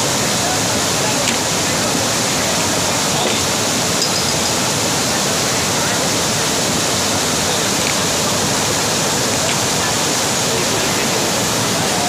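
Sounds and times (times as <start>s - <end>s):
floodwater rushing over rocks: 0.0s - 12.0s.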